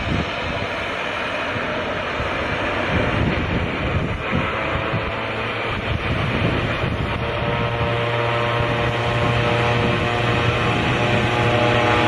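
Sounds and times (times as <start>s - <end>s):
propeller plane engines humming: 0.0s - 12.0s
wind on microphone: 0.0s - 12.0s.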